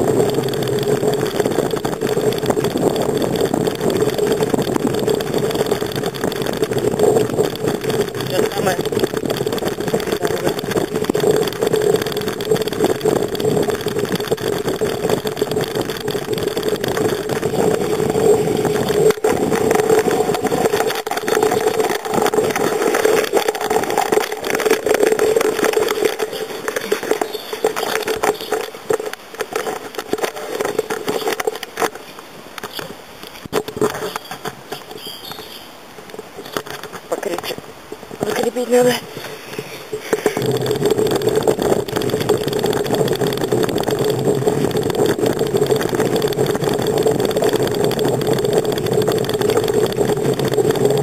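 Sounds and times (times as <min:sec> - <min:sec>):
camera tripod rattling and buzzing: 0:00.0 - 0:51.0
steady mid-pitched hum: 0:00.0 - 0:51.0.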